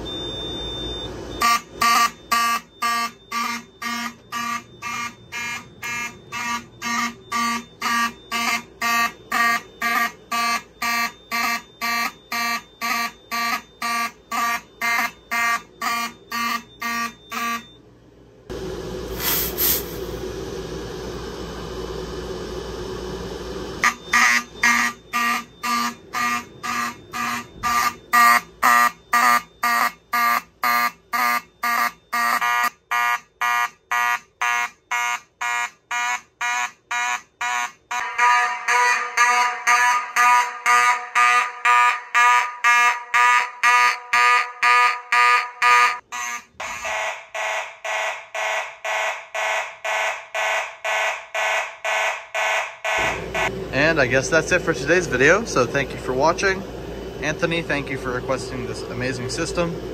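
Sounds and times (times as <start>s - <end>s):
pulsing fire alarm horns: 0.0s - 17.8s, 23.8s - 56.2s.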